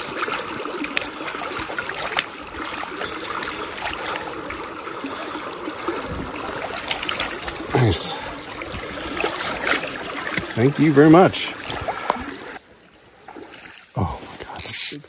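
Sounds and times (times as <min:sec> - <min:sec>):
creek running: 0:00.0 - 0:15.0
water splashes: 0:00.0 - 0:15.0.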